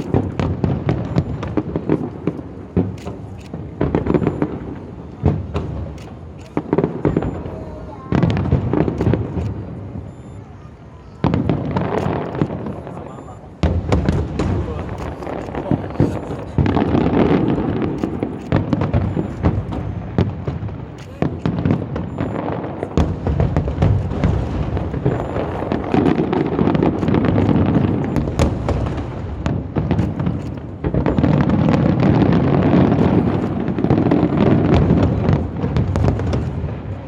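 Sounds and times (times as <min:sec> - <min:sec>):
fireworks booming: 0:00.0 - 0:37.0
fireworks popping and crackling: 0:00.0 - 0:37.0.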